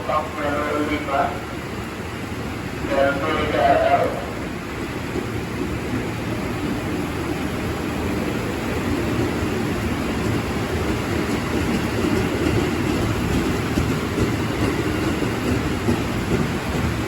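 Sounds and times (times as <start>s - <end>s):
heavy rain: 0.0s - 17.0s
train rumbling: 0.0s - 17.0s.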